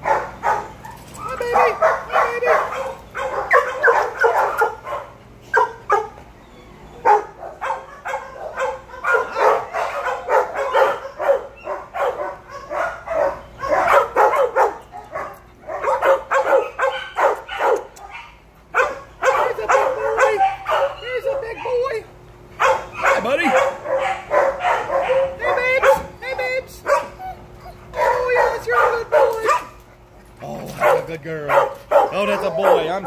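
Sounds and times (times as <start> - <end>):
dogs barking: 0.0 - 33.0.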